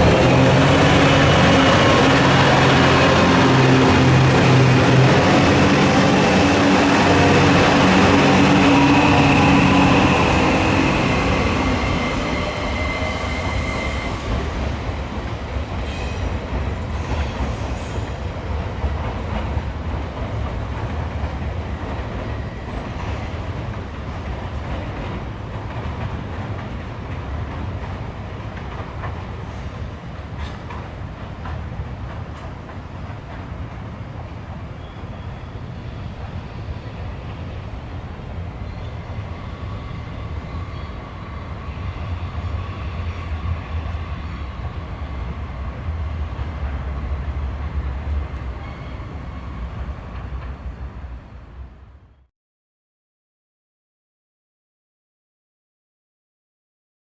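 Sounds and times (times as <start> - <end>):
train running past: 0.0 - 52.3.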